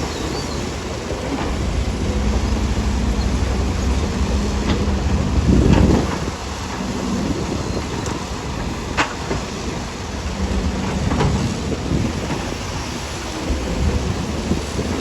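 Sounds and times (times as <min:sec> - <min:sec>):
heavy machinery rumbling: 0:00.0 - 0:15.0.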